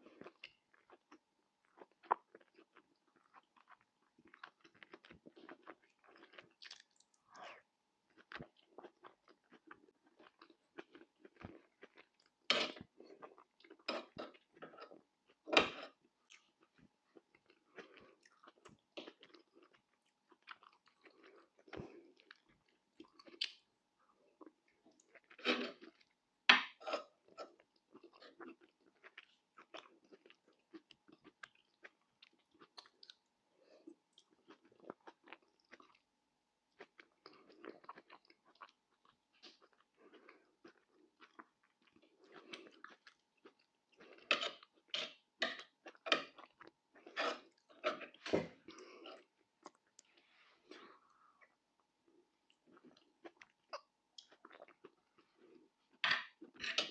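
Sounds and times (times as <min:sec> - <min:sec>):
person chewing and crunching: 0:00.0 - 0:36.1, 0:36.7 - 0:56.9.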